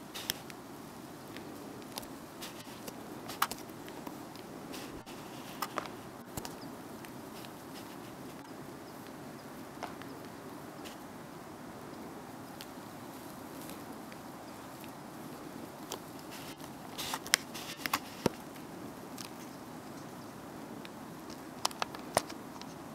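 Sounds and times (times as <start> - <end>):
outdoor background hiss: 0.0 - 22.9.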